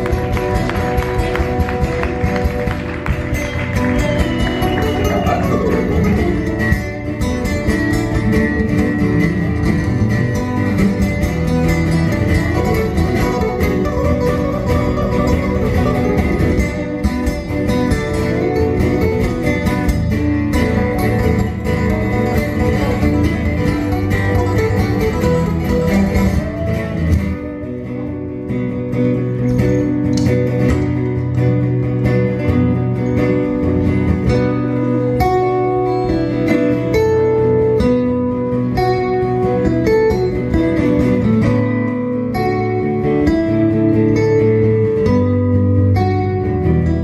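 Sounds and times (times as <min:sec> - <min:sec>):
acoustic guitar picking: 0:00.0 - 0:47.0.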